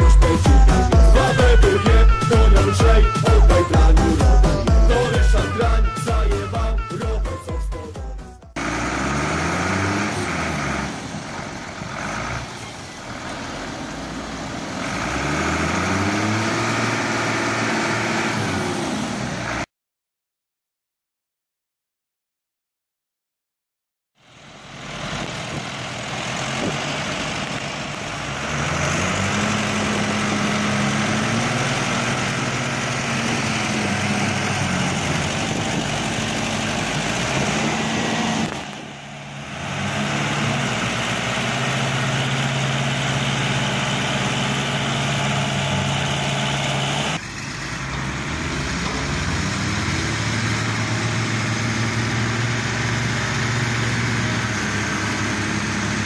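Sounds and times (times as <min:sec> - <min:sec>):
tractor diesel engines under load: 0:00.0 - 0:19.7, 0:24.2 - 0:56.0.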